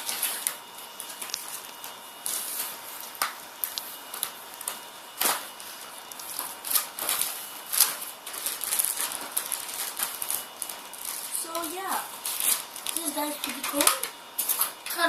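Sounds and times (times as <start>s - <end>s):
packaging crackles: 0.0s - 15.0s
toy packaging rustling and crinkling: 0.0s - 15.0s.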